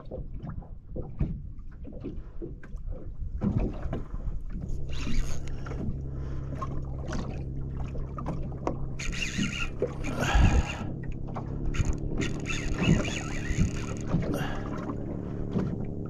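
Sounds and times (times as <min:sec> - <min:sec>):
rushes of water or wind: 0:00.0 - 0:16.0
outboard motor idling: 0:02.0 - 0:16.0.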